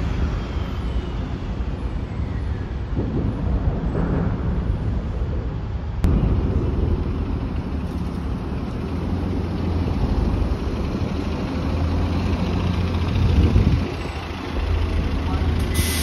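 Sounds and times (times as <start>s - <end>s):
bus engine rumbling past: 0.0s - 16.0s.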